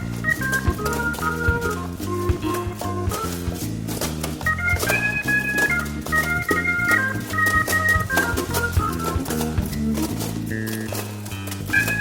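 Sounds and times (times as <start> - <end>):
organ-led tune over a beat: 0.0 - 12.0.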